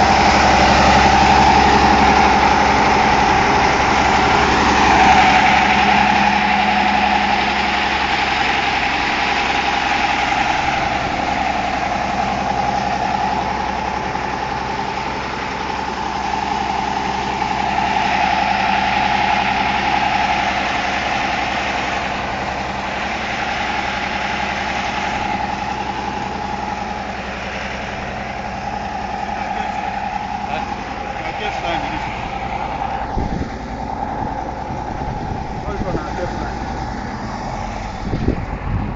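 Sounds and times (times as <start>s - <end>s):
construction machine engine whining: 0.0s - 38.9s.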